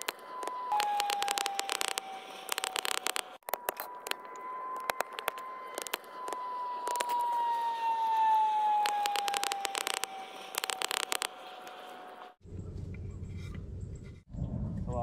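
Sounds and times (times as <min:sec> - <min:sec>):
steady high whine: 0:00.0 - 0:13.3.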